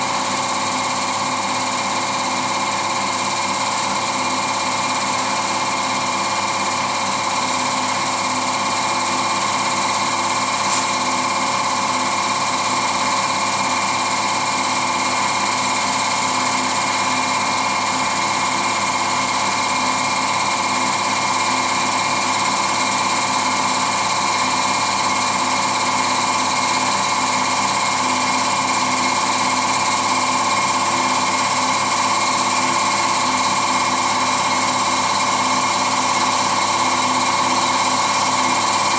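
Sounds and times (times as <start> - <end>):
air compressor whining: 0.0 - 38.9.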